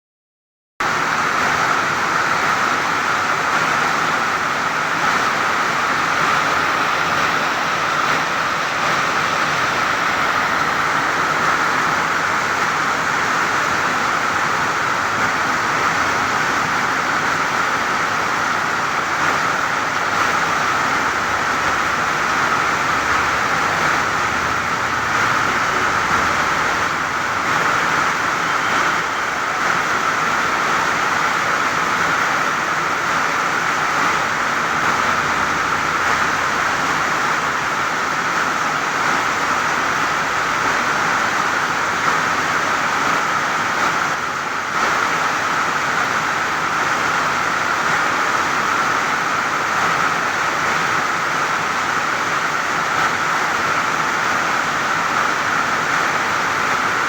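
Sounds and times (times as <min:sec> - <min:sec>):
heavy rain falling: 0:00.8 - 0:57.0.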